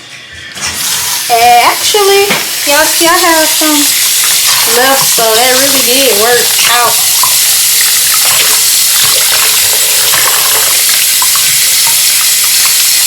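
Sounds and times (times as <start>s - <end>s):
water running from a tap: 0.8s - 13.0s.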